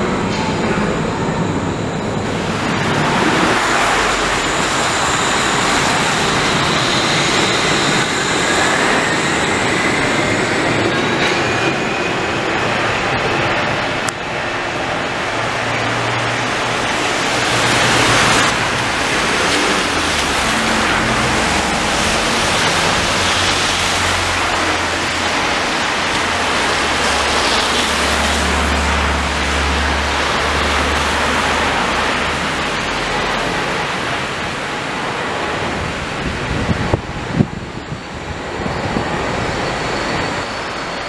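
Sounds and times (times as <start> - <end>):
street traffic: 0.0 - 41.0
suspension railway car rushing: 0.0 - 41.0.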